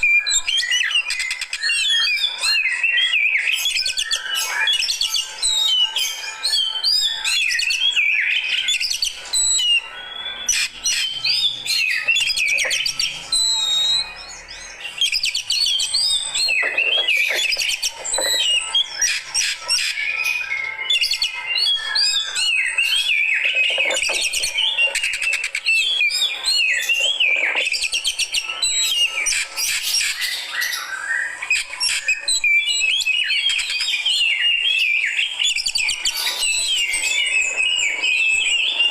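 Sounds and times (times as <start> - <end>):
bird singing whistles and chatter: 0.0 - 38.9.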